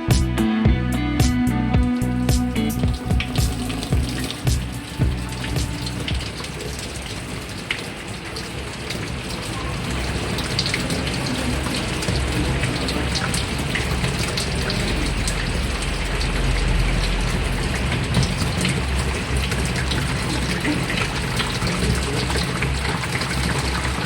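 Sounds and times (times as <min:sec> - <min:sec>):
water splashing in washing machine: 0:02.8 - 0:24.0.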